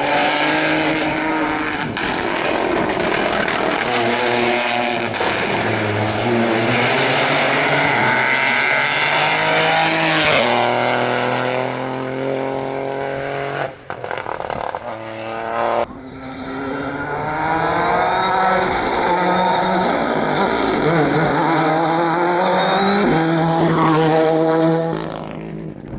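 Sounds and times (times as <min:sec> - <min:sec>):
rally car engine at high revs: 0:00.0 - 0:25.9.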